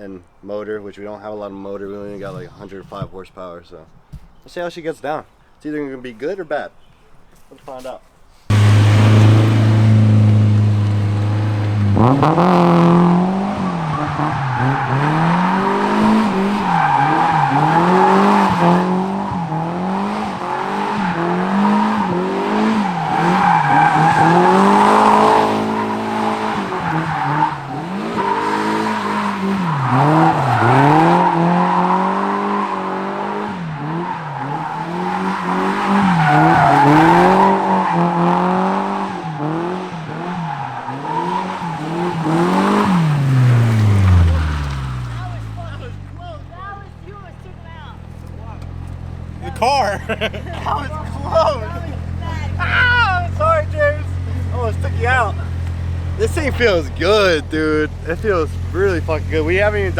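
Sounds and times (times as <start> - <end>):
tyres squealing: 1.7 - 59.9
car engine revving: 8.5 - 59.9.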